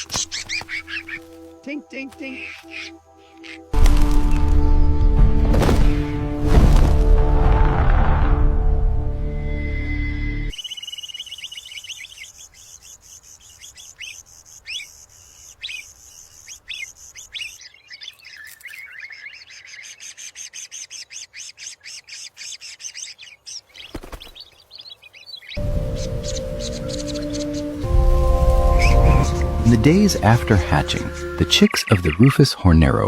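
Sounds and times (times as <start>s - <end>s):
birds chirping shrilly: 0.0s - 4.8s, 9.2s - 32.6s.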